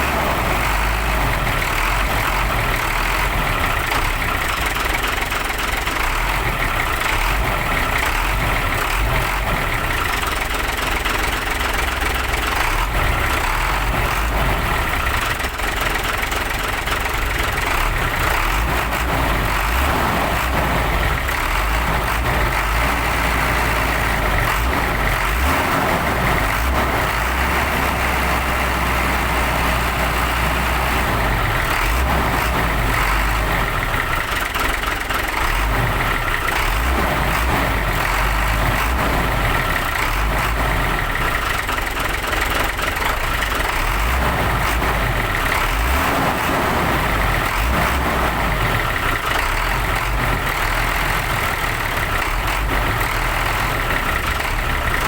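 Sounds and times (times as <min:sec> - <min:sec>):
truck diesel engine idling: 0:00.0 - 0:55.0.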